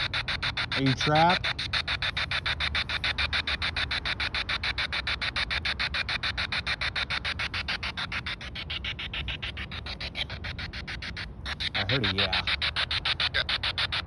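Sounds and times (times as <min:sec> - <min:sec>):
pulsing radio static: 0:00.0 - 0:14.0.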